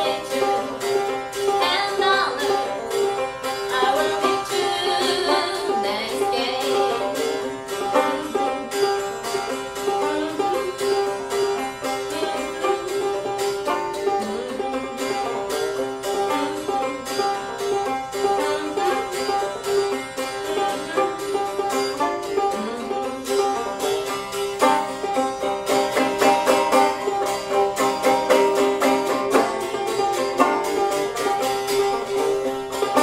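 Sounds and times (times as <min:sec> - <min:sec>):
banjo plucking a tune: 0:00.0 - 0:33.0.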